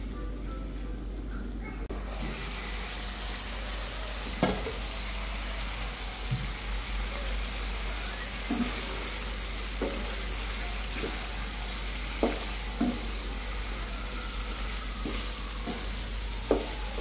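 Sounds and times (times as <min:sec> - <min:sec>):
sauce sizzling in a frying pan: 0:02.0 - 0:17.0.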